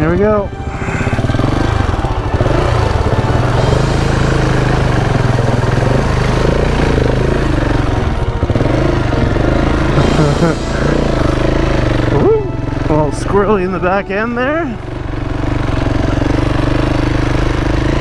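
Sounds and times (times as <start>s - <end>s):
motorcycle engine under load: 0.0s - 18.0s.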